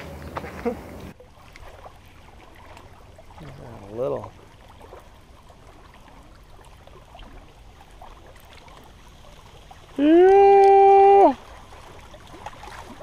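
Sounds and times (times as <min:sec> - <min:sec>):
lake water lapping: 0:00.0 - 0:13.0
wind: 0:00.0 - 0:13.0.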